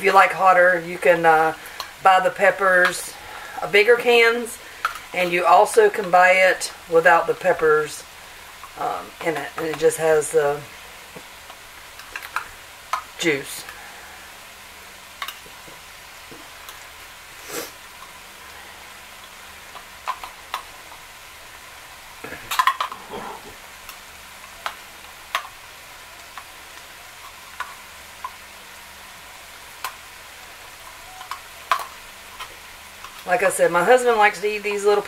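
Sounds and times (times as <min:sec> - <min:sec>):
low steady hiss: 0:00.0 - 0:35.0.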